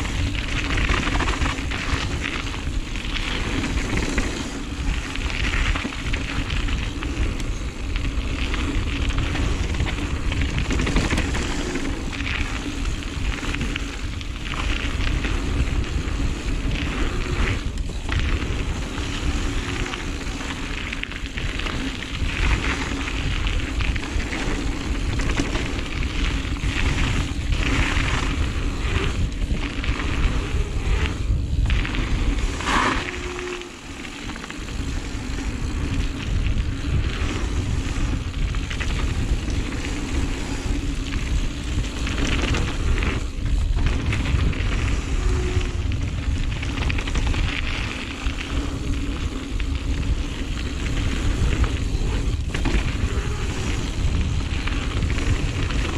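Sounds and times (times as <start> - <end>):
bike rattling: 0.0 - 55.9
tyres on dirt and gravel: 0.0 - 55.9
wind rush on microphone: 0.0 - 55.9.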